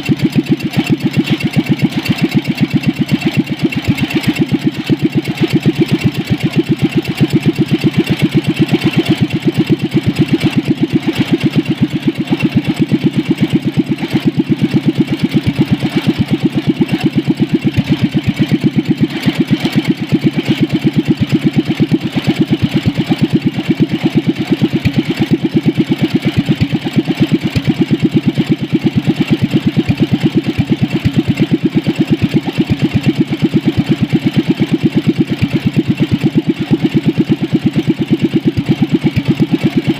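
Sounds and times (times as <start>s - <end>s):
engine running at rapid beat: 0.0s - 39.9s.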